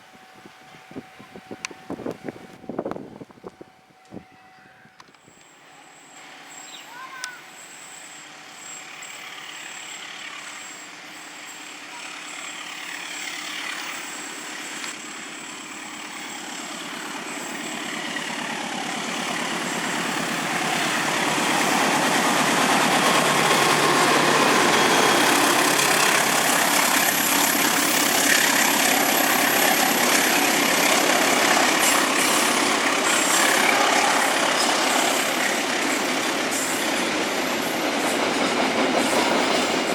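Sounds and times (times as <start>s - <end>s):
train rumble and wheel noise: 0.0s - 39.9s.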